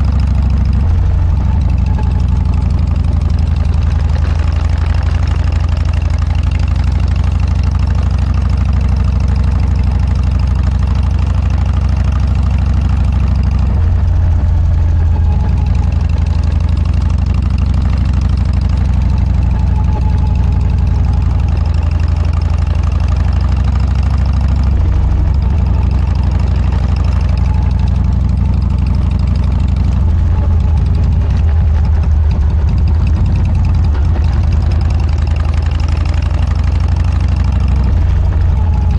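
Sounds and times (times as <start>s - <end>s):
motorcycle engine deep exhaust: 0.0s - 38.9s.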